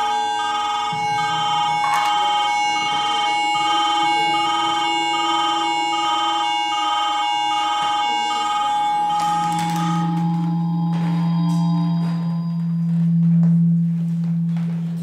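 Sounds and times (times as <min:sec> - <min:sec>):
pulsing high tones: 0:00.0 - 0:13.0
piercing feedback tone: 0:00.0 - 0:15.0.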